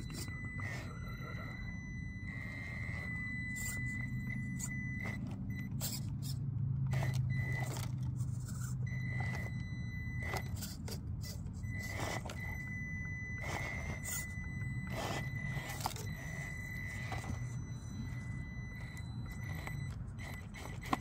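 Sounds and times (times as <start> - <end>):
low hum: 0.0 - 21.0
toy car motor whining: 0.0 - 21.0.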